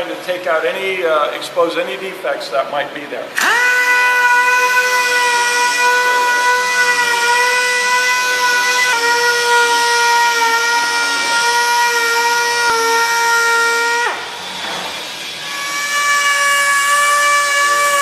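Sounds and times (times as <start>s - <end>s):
orbital sander high whine: 3.4s - 18.0s.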